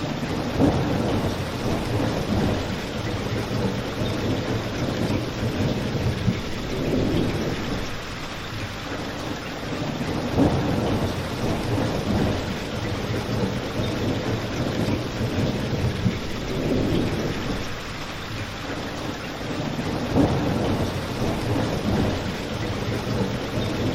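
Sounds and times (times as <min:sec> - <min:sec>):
steady rain: 0:00.0 - 0:23.9.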